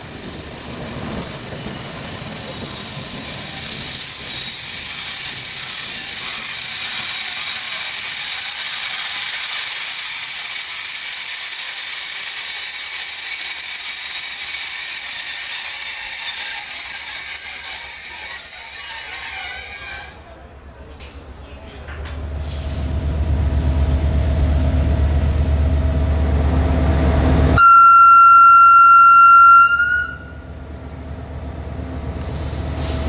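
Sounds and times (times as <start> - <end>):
train wheels and brakes squealing: 0.0 - 20.7, 22.4 - 25.9, 26.7 - 30.9, 32.0 - 33.0
train rolling rumble: 0.0 - 27.8, 29.1 - 33.0.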